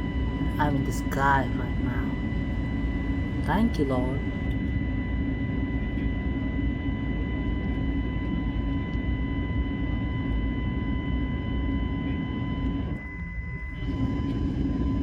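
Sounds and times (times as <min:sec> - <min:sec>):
airliner cabin engine roar: 0:00.0 - 0:15.0
high-pitched hum: 0:00.0 - 0:15.0.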